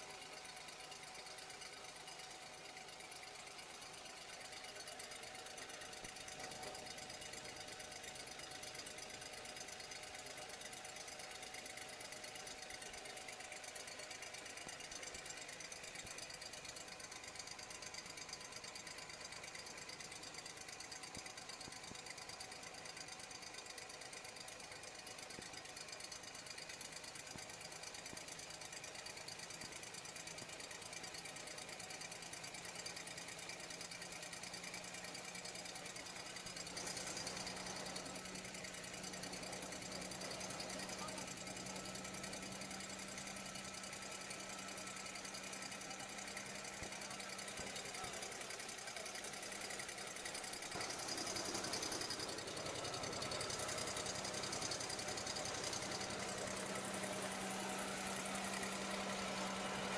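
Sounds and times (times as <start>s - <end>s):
generator engine running: 0.0s - 28.8s, 33.1s - 59.9s.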